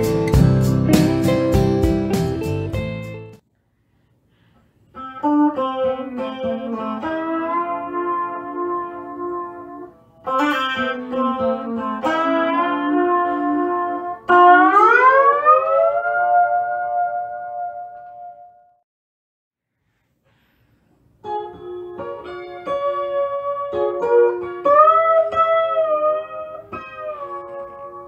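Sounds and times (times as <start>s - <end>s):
electric lap steel guitar: 0.0s - 3.4s, 4.9s - 18.6s, 21.2s - 28.0s.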